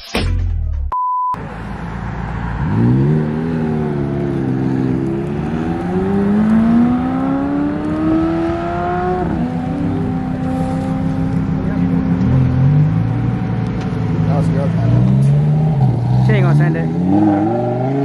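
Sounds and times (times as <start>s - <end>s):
car engine accelerating: 1.4s - 18.0s.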